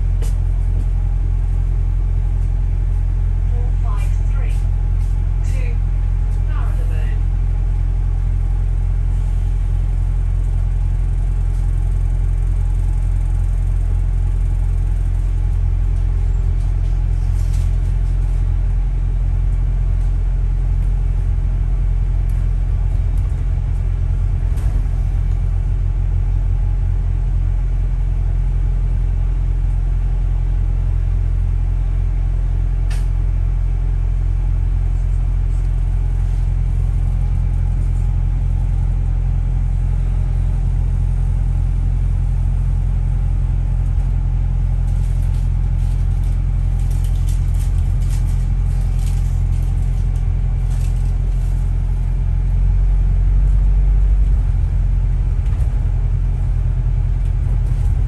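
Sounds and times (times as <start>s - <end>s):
bus engine and road drone: 0.0s - 58.0s.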